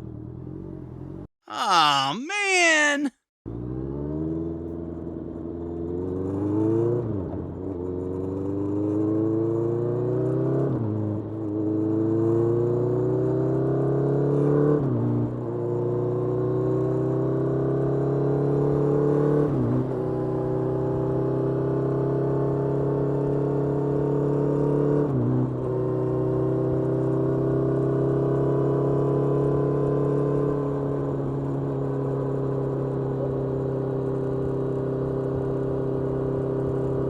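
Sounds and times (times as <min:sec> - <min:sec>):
motorcycle engine accelerating: 0:00.0 - 0:01.3, 0:03.5 - 0:37.0.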